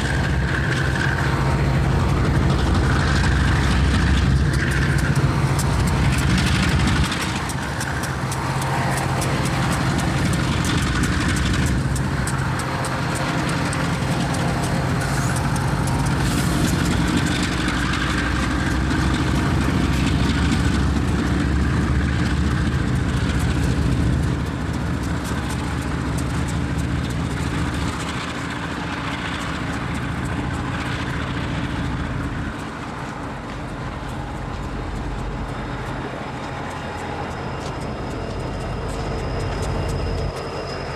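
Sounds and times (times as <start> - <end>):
heavy engine running: 0.0 - 40.9
rushing noise: 0.0 - 40.9.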